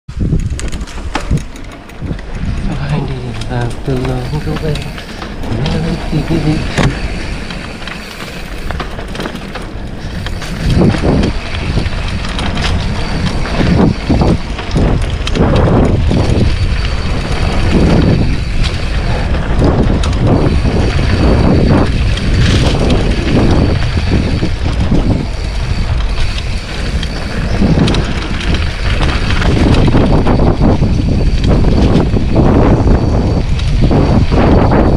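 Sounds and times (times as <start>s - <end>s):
bike rattling over bumps: 0.1s - 34.9s
wind buffeting microphone: 0.1s - 34.9s.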